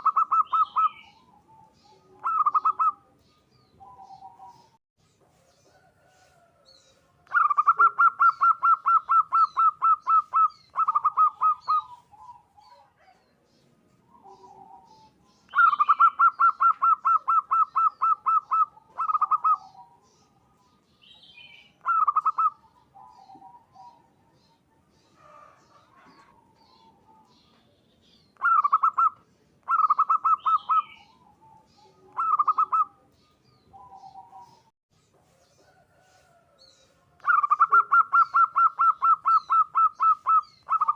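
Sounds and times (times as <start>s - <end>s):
dove cooing: 0.0s - 4.8s, 7.3s - 13.4s, 14.1s - 27.6s, 28.3s - 34.7s, 37.2s - 40.9s.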